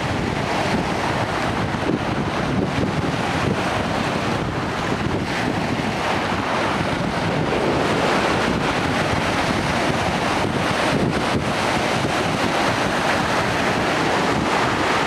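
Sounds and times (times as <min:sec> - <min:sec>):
waves breaking against rocks: 0:00.0 - 0:15.0
wind buffeting microphone: 0:00.0 - 0:15.0.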